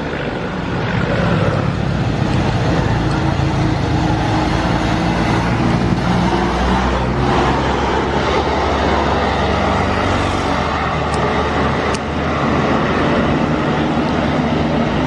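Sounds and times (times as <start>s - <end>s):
heavy vehicle passing: 0.1s - 15.0s.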